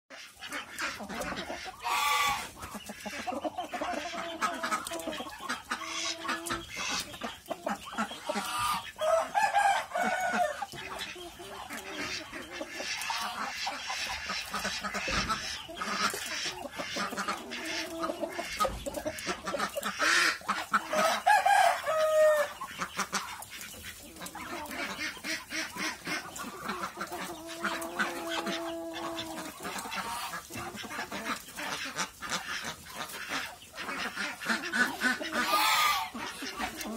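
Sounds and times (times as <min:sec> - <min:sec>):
chickens clucking and calling: 0:00.1 - 0:36.9.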